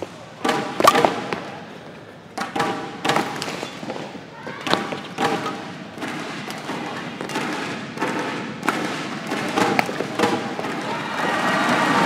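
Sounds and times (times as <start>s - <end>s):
rackets striking shuttlecock: 0.0s - 1.5s, 2.3s - 10.9s
crowd noise hum: 0.0s - 12.0s.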